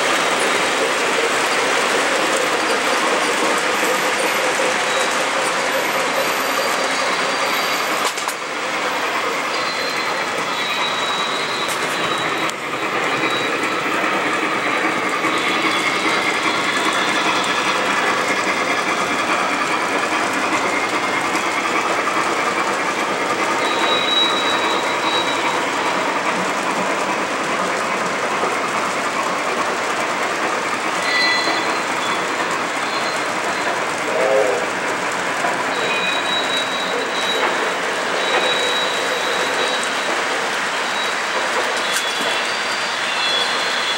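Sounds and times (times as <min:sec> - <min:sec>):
high wheel squeals: 0:00.0 - 0:26.4, 0:30.4 - 0:34.6, 0:35.4 - 0:43.9
model train wheels rumbling: 0:00.0 - 0:43.9.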